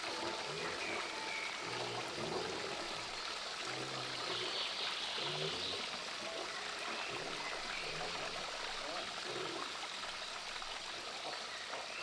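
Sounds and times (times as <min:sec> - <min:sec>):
stream trickling and flowing: 0:00.0 - 0:12.0.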